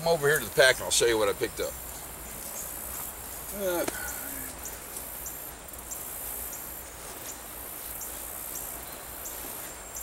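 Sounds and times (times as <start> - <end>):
insect chirp: 0.0 - 10.0
insects buzzing: 0.0 - 10.0.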